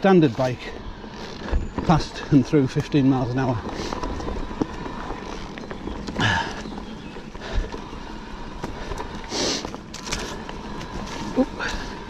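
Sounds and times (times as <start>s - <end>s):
bike rattling and knocking: 0.0s - 12.0s
bike tyres on dirt trail: 0.0s - 12.0s.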